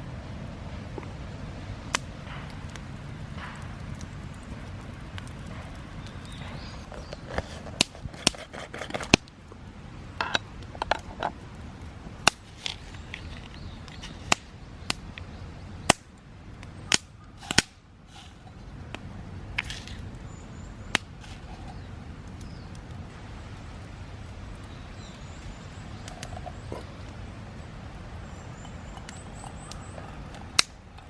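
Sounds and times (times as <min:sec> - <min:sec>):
campfire crackling: 0:00.0 - 0:31.0
burning wood popping: 0:01.8 - 0:31.0.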